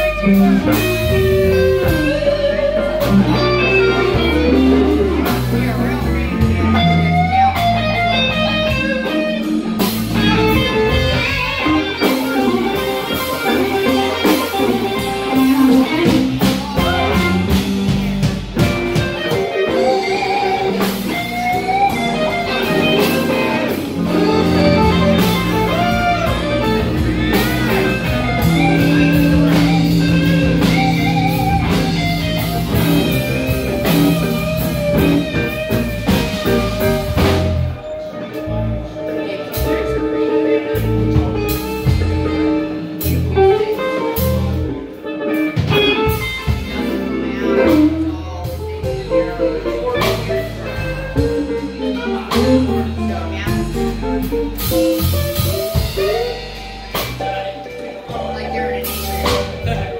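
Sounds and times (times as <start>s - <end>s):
drum kit beat: 0.0s - 59.9s
electric bass: 0.0s - 59.9s
electric guitar melody: 0.0s - 59.9s.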